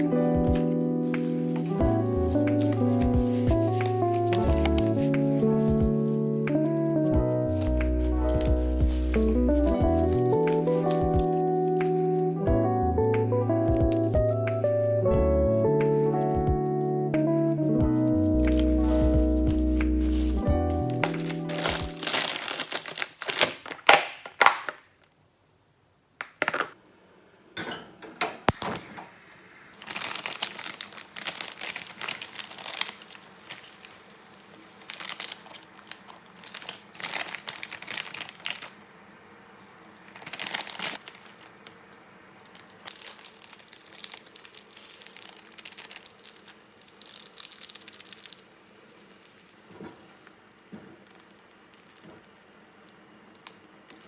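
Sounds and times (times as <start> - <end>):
packaging crinkling: 0.0 - 12.5, 13.2 - 14.8, 15.5 - 16.5, 17.7 - 25.1, 29.7 - 52.6.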